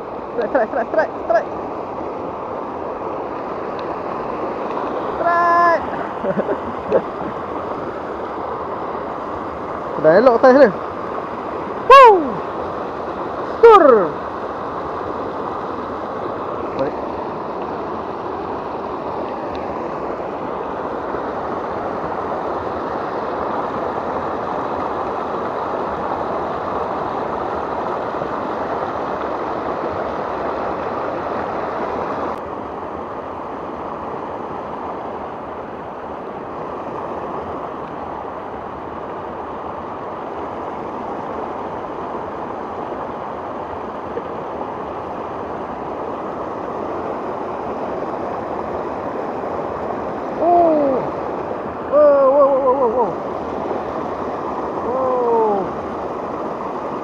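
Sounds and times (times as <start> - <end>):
river rushing over rapids: 0.0 - 57.0.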